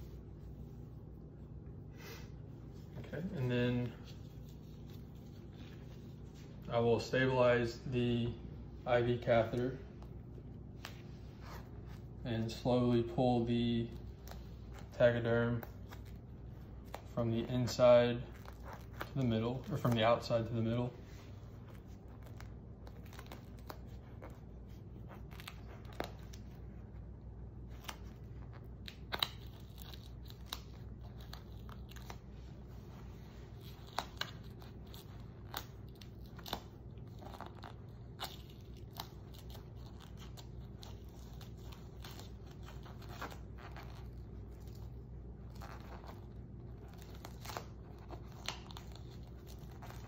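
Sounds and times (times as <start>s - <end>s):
steady low hum: 0.0s - 50.0s
film dressing peeled off crackling: 8.9s - 26.9s, 27.6s - 50.0s.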